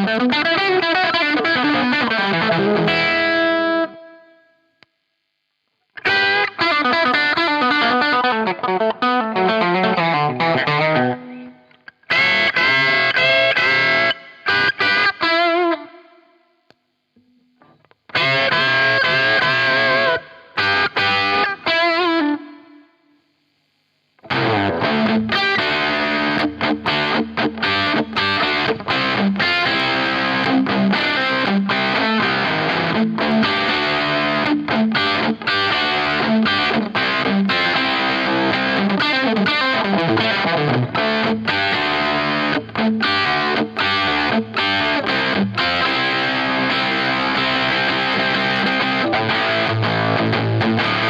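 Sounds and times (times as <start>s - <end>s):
fuzz electric guitar riff: 0.0s - 4.6s, 5.9s - 16.5s, 17.2s - 23.0s, 24.2s - 51.0s.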